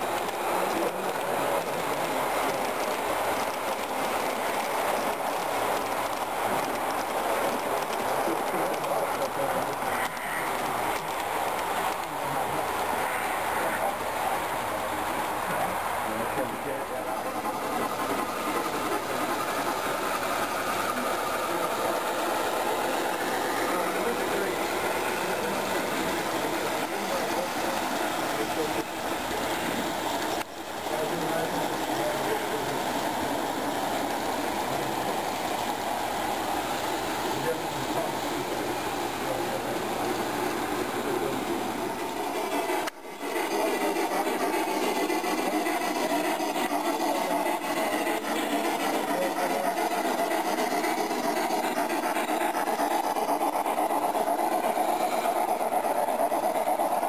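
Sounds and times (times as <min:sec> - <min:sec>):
train wheels rolling on rail: 0:00.0 - 0:57.0.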